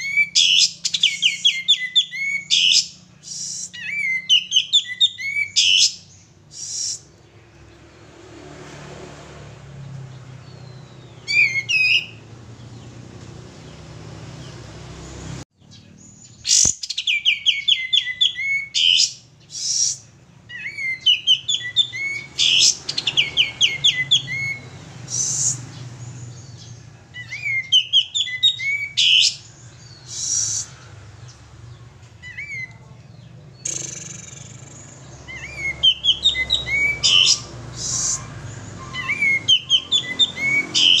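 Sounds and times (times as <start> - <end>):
bulbul singing: 0.0 - 7.8, 9.6 - 41.0.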